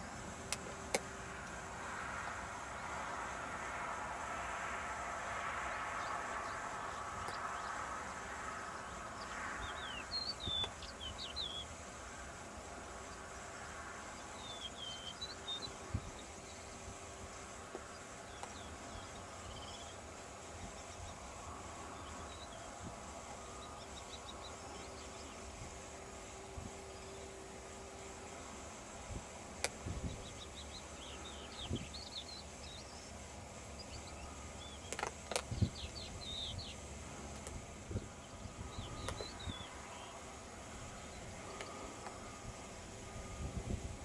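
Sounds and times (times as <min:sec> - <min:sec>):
distant jet engines taxiing: 0:00.0 - 0:44.0
small birds chirping: 0:05.6 - 0:27.4, 0:29.6 - 0:43.4.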